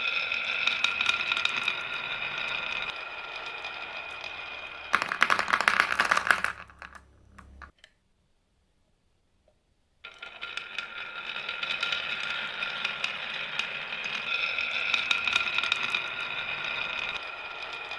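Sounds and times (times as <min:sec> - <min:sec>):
marbles clattering: 0:00.0 - 0:07.7, 0:10.1 - 0:17.9
marbles rolling on a marble run: 0:00.0 - 0:07.7, 0:10.1 - 0:17.9.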